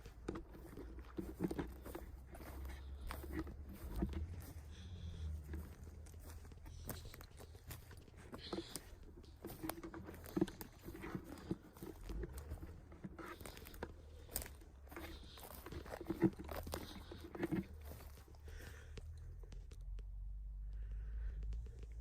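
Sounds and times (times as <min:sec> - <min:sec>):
crunching of forest floor litter: 0:00.0 - 0:19.7
sharp clicks and rustles: 0:00.0 - 0:22.0.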